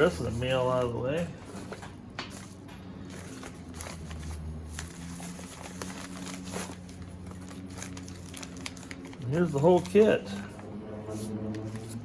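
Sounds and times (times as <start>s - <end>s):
steady low hum: 0.0s - 12.0s
packaging crinkling and rustling: 1.6s - 12.0s.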